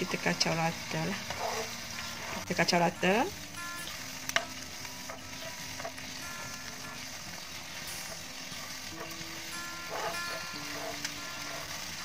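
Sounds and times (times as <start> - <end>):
sauce sizzling and bubbling: 0.0 - 12.0.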